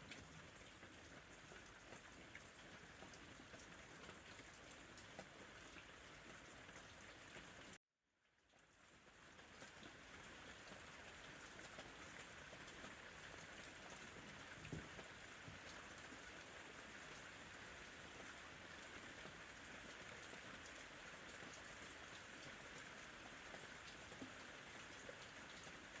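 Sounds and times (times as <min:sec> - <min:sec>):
soft rain falling: 0:00.0 - 0:26.0.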